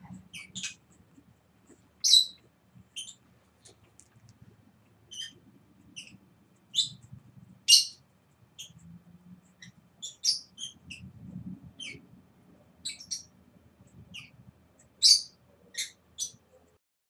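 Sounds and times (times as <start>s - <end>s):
small bird chirping: 0.0s - 4.0s, 5.0s - 12.1s, 12.8s - 16.8s.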